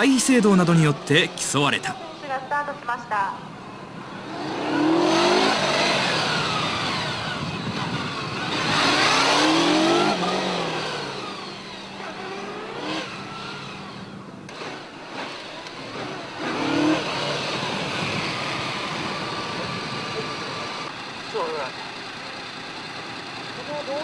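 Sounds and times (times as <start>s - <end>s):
motorcycle engine revving: 3.9s - 24.0s.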